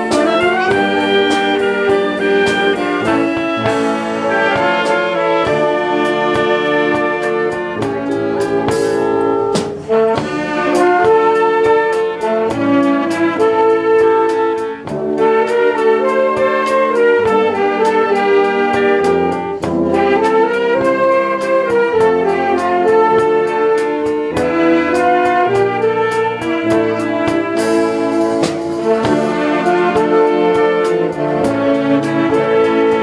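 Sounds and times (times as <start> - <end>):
tuba bass: 0.0 - 33.0
wind band playing slow chords: 0.0 - 33.0.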